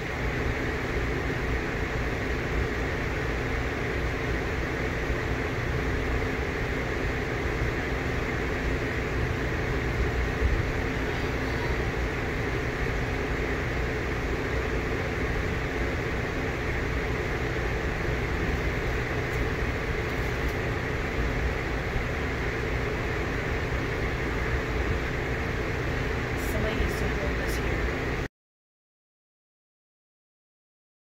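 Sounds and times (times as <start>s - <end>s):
steady low rumble with hiss: 0.0s - 28.3s.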